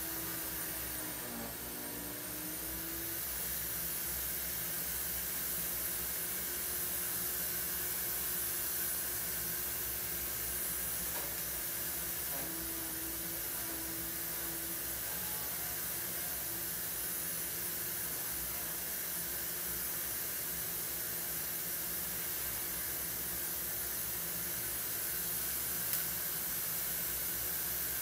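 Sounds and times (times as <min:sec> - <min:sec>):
room noise hiss: 0:00.0 - 0:28.0.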